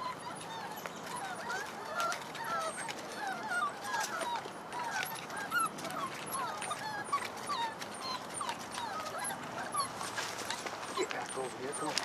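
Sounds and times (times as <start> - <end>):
puppies whining and yipping: 0.0 - 12.0.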